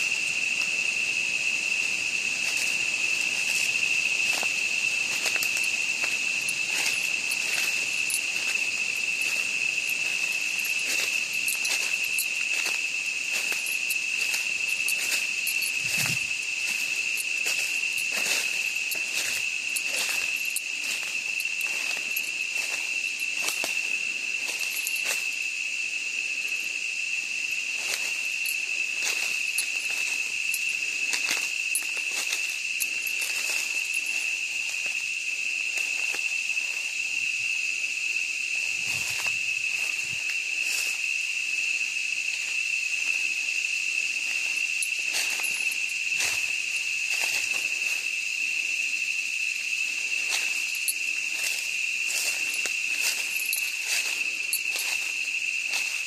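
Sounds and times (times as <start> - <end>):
footsteps crunching on forest floor: 0.0 - 25.6, 27.4 - 37.2, 38.5 - 41.2, 44.1 - 48.7, 49.8 - 56.0
cricket-like insect chorus: 0.0 - 56.0.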